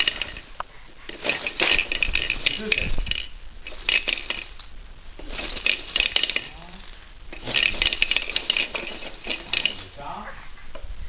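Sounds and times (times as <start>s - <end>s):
plastic toy clicking and rattling: 0.0s - 10.1s.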